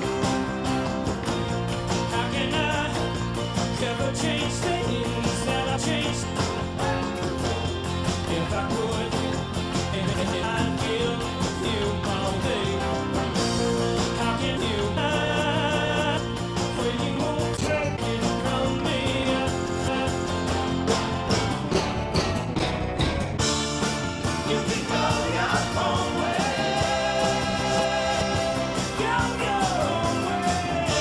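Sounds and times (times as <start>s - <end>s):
rock band playing: 0.0s - 31.0s
man singing: 1.9s - 20.8s, 24.3s - 31.0s.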